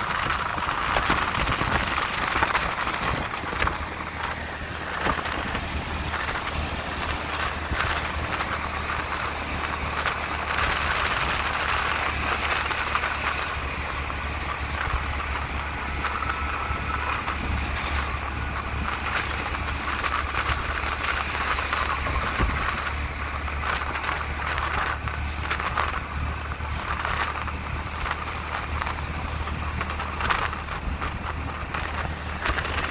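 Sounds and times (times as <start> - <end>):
passing traffic: 0.0 - 32.9
vehicle engine humming: 0.0 - 32.9
wind and road noise: 0.0 - 32.9.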